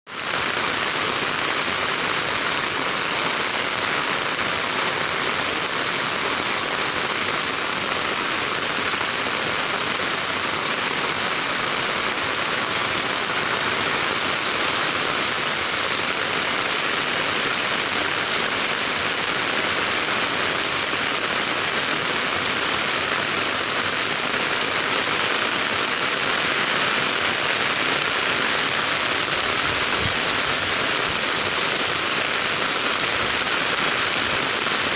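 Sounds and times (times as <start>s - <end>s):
rain falling: 0.1s - 34.9s.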